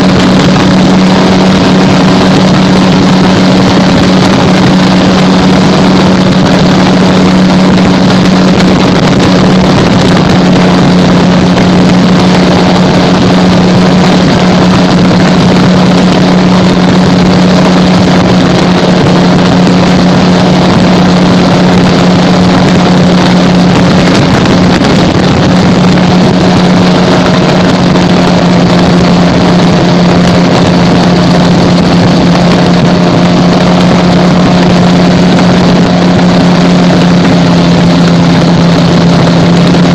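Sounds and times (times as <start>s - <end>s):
gyrocopter engine and propeller: 0.0s - 39.9s
wind on microphone: 0.0s - 39.9s.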